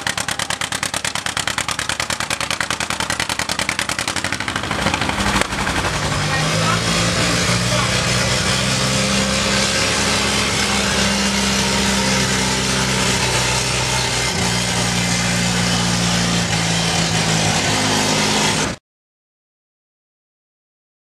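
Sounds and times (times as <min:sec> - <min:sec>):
tractor engine idling: 0:00.0 - 0:08.7, 0:09.6 - 0:17.9.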